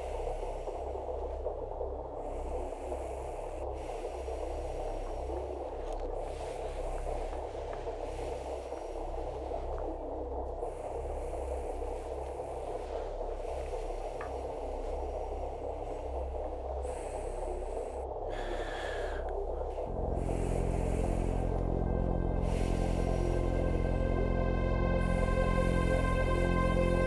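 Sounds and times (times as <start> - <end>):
dark droning music: 0.0 - 27.0
low room drone: 0.0 - 27.0
man breathing heavily through nose: 0.0 - 27.0.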